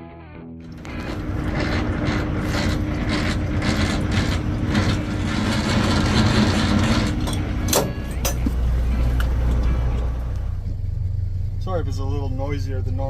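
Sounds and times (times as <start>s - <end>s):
diesel engine clattering: 0.6s - 13.0s.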